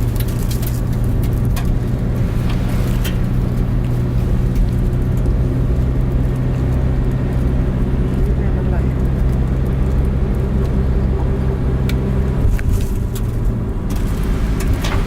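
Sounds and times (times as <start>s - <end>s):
van engine and road noise: 0.0s - 15.0s.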